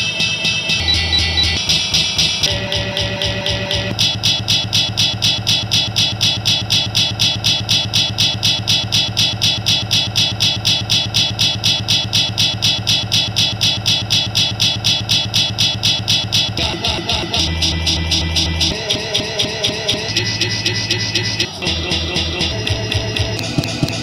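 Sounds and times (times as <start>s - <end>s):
skipping cd music stutter: 0.8s - 24.0s.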